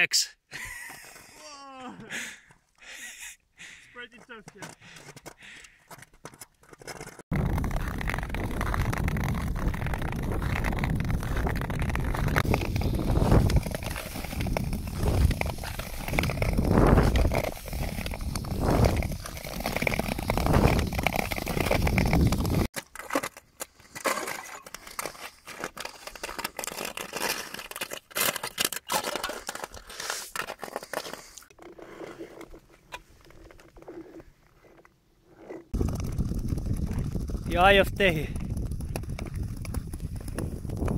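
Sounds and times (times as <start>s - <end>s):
skate blades scraping ice: 4.0s - 40.9s
clicks and crackles: 4.1s - 40.9s.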